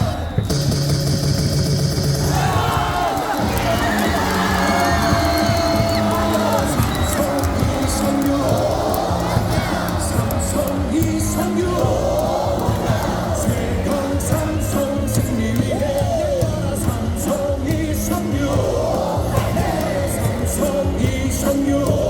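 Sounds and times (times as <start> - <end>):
crowd singing: 0.0 - 0.5, 2.2 - 22.0
amplified music with beat: 0.0 - 22.0.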